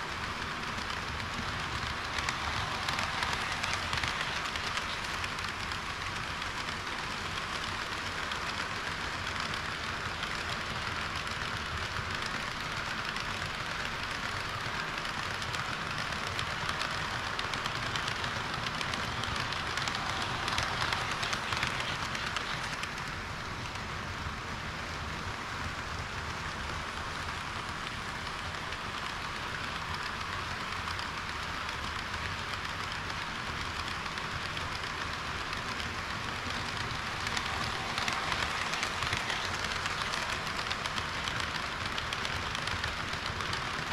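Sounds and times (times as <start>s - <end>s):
wheels clicking: 0.0s - 25.2s, 25.9s - 43.9s
model trains rolling on track: 0.0s - 43.9s.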